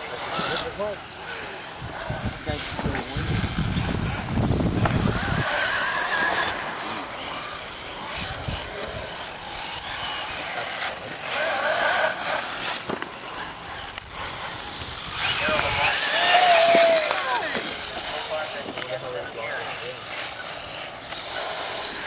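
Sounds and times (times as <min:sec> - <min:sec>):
rc car motors whining: 0:00.0 - 0:22.0.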